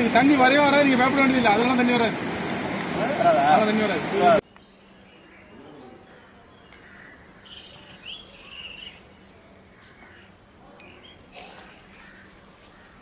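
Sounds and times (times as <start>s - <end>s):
birds chirping: 0.0s - 13.0s
faint outdoor background noise: 0.0s - 13.0s.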